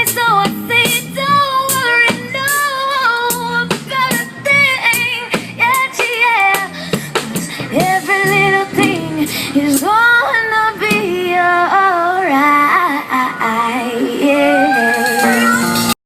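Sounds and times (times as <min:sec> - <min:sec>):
woman singing: 0:00.0 - 0:06.8, 0:07.4 - 0:16.0
instrumental backing: 0:00.0 - 0:12.2, 0:13.4 - 0:16.0.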